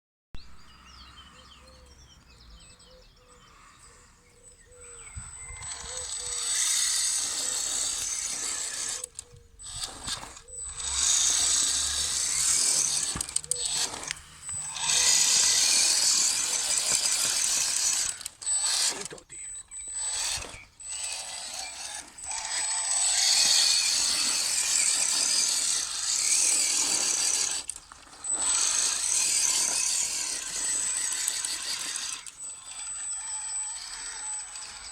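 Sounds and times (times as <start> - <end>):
toy truck motor whirring and rattling: 3.5 - 34.9.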